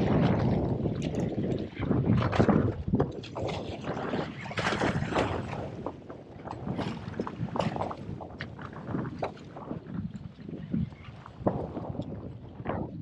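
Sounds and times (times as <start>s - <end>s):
waves slapping against boat: 0.0s - 13.0s
wind buffeting microphone: 0.0s - 13.0s.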